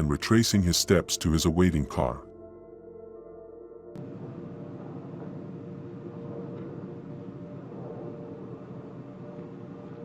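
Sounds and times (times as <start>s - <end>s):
steady low background noise: 0.0s - 10.0s.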